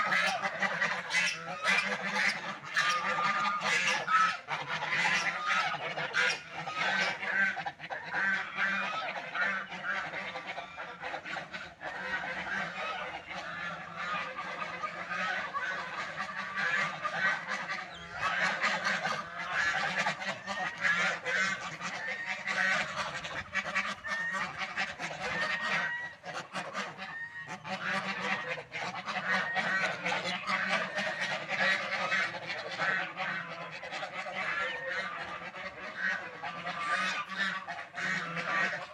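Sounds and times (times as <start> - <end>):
ducks calling: 0.0 - 38.9.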